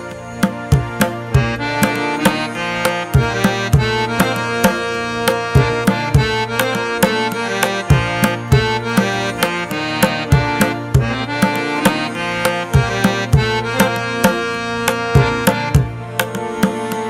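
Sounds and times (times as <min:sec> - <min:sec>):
instrumental music with drum beat: 0:00.0 - 0:17.0.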